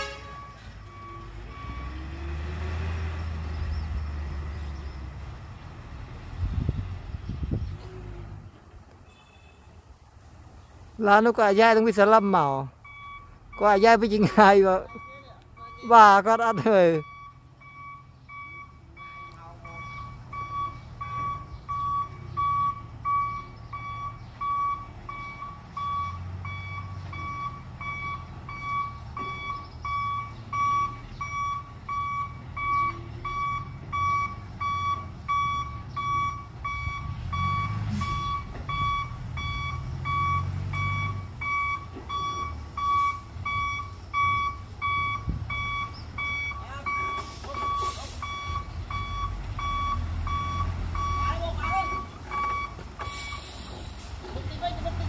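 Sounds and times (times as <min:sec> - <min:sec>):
truck reversing alarm beeping: 0:00.0 - 0:05.2, 0:11.3 - 0:54.1.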